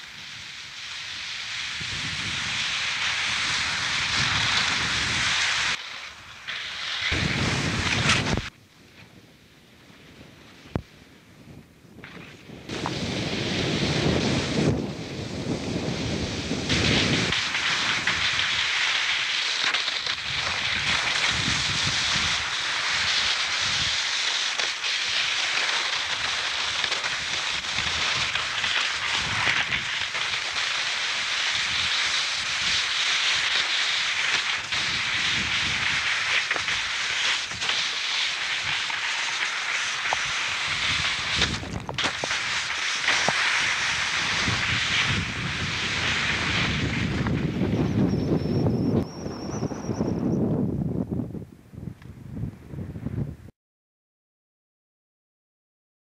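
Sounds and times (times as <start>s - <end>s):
skis sliding over snow: 0.0s - 9.2s, 12.0s - 50.0s
wind on microphone: 1.6s - 5.8s, 7.0s - 19.1s, 20.1s - 24.2s, 26.1s - 53.5s.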